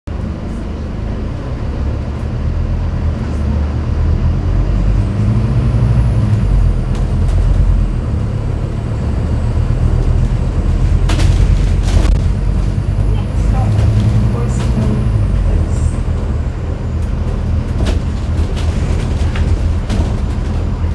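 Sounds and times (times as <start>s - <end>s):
bus diesel engine running: 0.1s - 20.9s
road noise: 0.1s - 20.9s.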